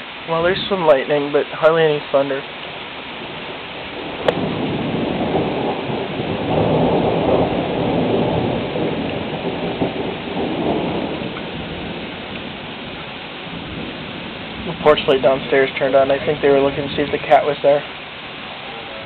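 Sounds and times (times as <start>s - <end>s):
low rumble of thunder: 0.0s - 1.4s, 3.1s - 18.2s
steady rain: 0.0s - 19.0s.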